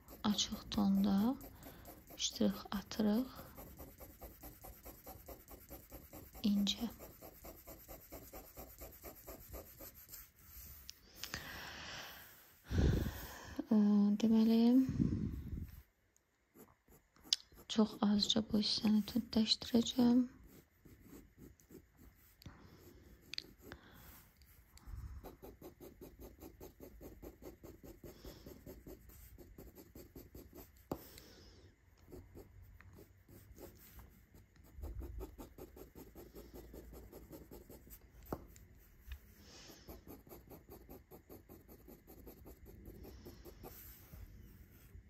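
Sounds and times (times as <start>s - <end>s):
pencil scratching on paper: 0.0s - 10.9s, 16.5s - 31.1s, 32.1s - 45.0s.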